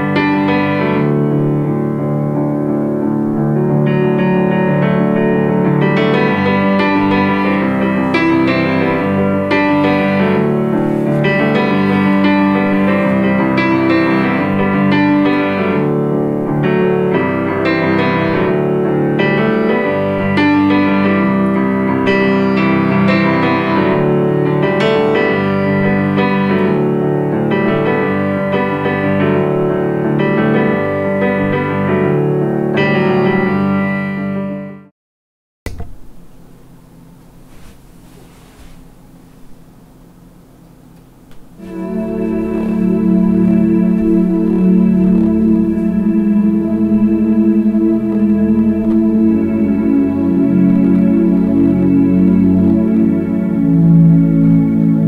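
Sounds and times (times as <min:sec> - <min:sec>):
piano music through small speakers: 0:00.0 - 0:34.9, 0:38.9 - 0:55.0.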